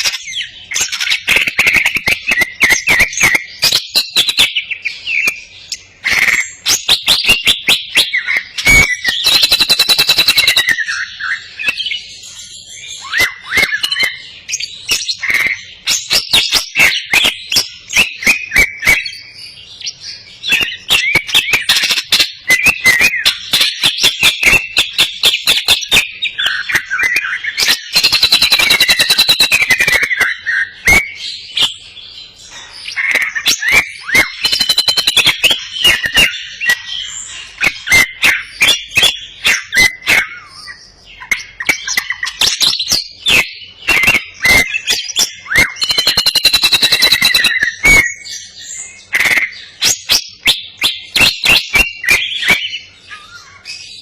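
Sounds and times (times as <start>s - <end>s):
bird singing with whistled phrases: 0.0s - 54.0s
fast rattling bird trills: 0.0s - 54.0s.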